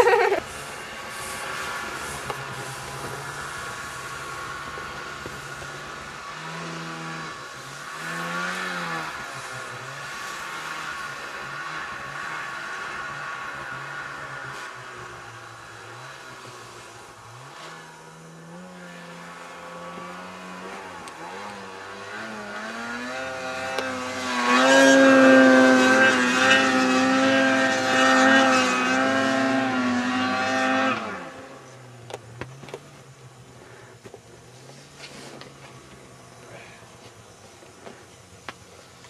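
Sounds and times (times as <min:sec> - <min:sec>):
snowmobile engine revving: 0:00.0 - 0:32.4.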